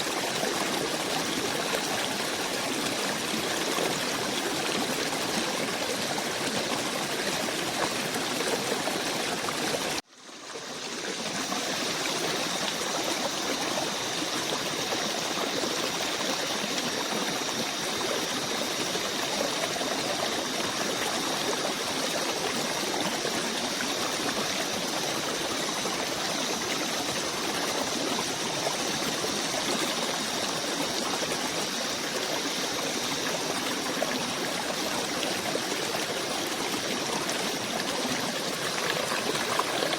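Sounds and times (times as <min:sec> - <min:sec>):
forest stream rushing and trickling: 0:00.0 - 0:39.9.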